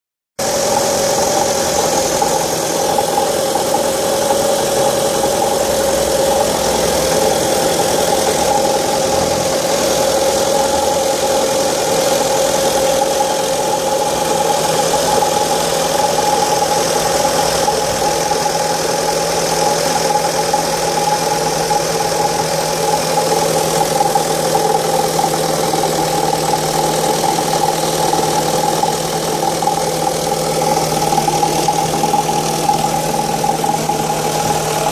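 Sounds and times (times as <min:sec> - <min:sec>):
car engine idling: 0:00.4 - 0:34.9
steady engine tone: 0:00.4 - 0:34.9.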